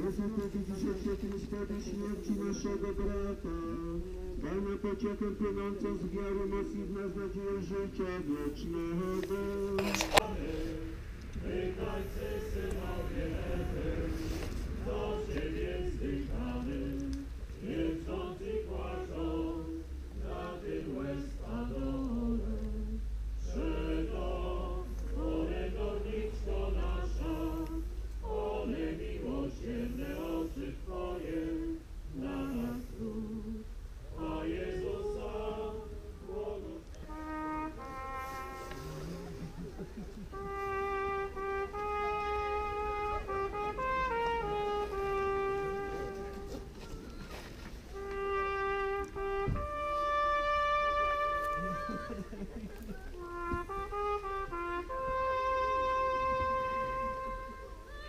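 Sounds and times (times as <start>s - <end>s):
congregation singing a hymn: 0.0s - 57.7s
low steady rumble: 0.0s - 58.0s.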